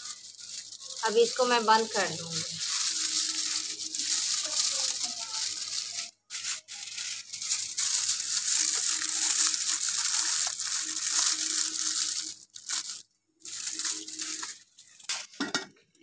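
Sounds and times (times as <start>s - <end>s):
aluminium foil crinkling: 0.0s - 15.9s.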